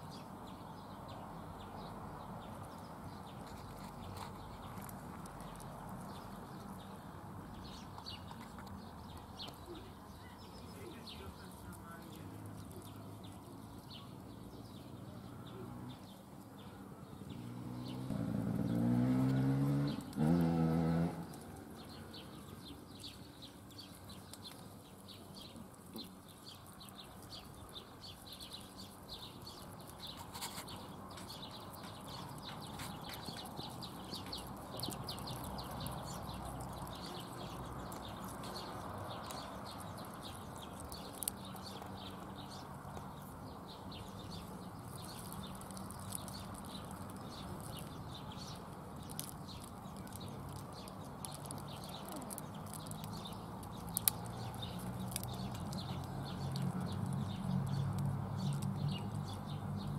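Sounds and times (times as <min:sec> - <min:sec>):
faint outdoor ambience: 0:00.0 - 0:59.9.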